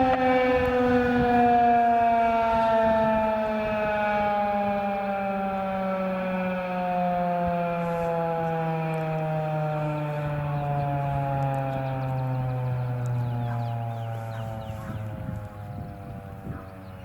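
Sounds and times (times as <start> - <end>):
warning siren gliding downward: 0.0 - 17.0.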